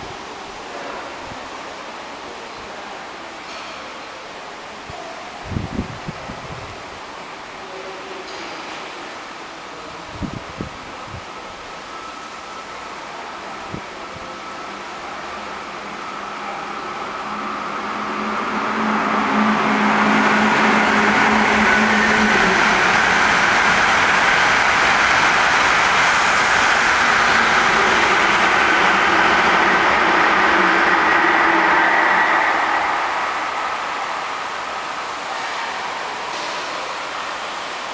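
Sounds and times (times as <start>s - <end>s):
high-speed train passing: 0.0s - 37.9s.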